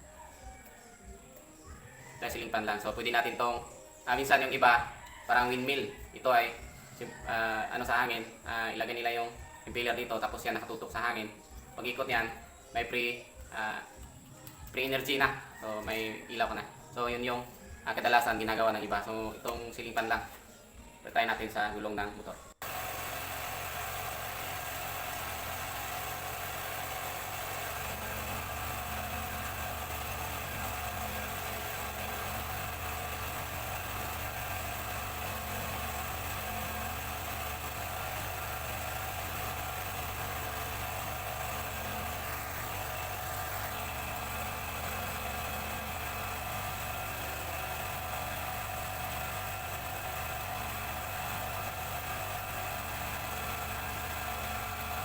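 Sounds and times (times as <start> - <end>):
motorcycle engine running: 0.0 - 21.6, 22.4 - 55.0.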